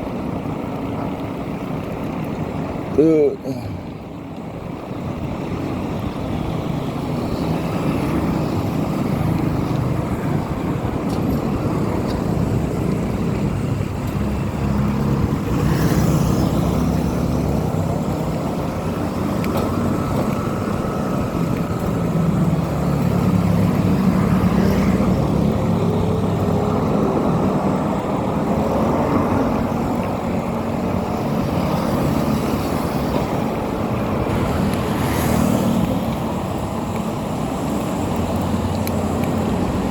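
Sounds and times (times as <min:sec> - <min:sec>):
road vehicle running hum: 0:00.0 - 0:39.9.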